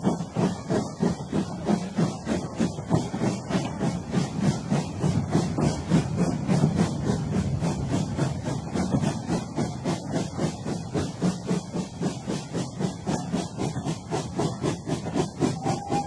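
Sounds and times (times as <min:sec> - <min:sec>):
steam hissing: 0:00.0 - 0:16.0
steam locomotive chuffing: 0:00.0 - 0:16.0.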